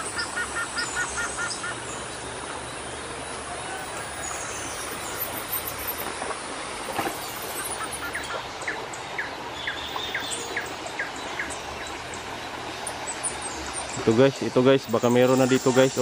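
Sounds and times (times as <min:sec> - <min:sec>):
background hiss: 0:00.0 - 0:16.0
birds calling: 0:00.0 - 0:16.0.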